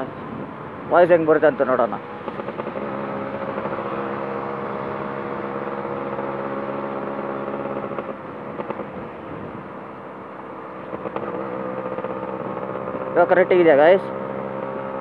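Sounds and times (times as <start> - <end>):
road noise: 0.0 - 15.0
two-stroke motorcycle engine cruising: 1.0 - 15.0.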